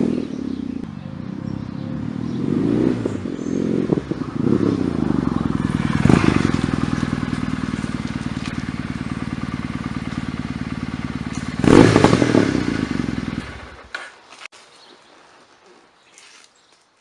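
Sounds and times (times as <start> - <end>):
engine revving: 0.0 - 13.9
motorcycle engine idling: 0.0 - 13.9.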